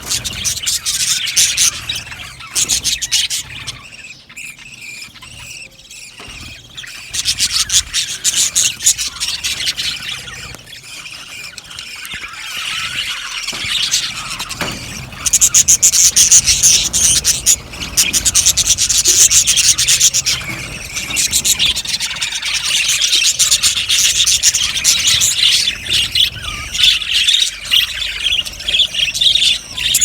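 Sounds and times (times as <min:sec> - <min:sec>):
budgerigars chattering: 0:00.0 - 0:30.0.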